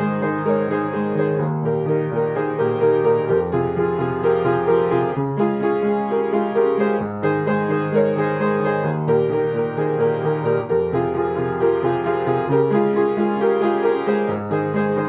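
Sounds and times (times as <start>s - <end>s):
piano chords music: 0.0s - 15.0s.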